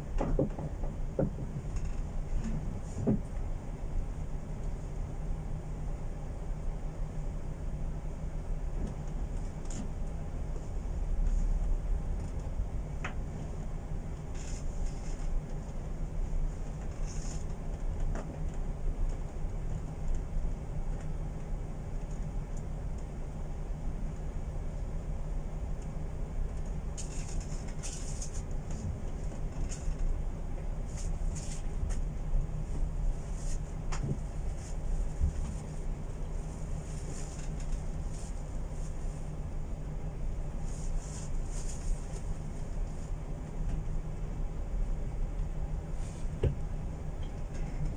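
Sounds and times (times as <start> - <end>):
ship engine low rumble: 0.0 - 47.9
wind: 0.0 - 47.9.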